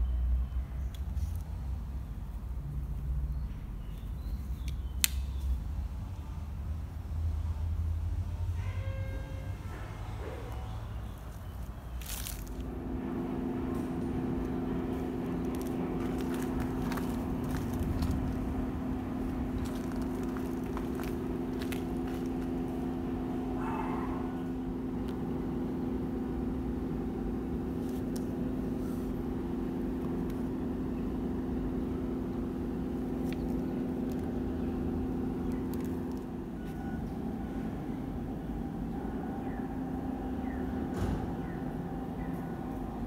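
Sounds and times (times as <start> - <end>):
mechanical hum with low rumble: 0.0 - 43.0.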